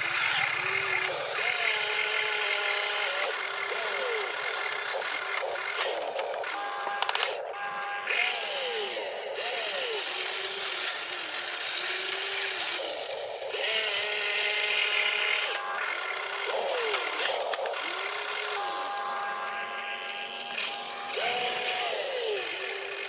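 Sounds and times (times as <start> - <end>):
small electric motors whirring: 0.0 - 23.0.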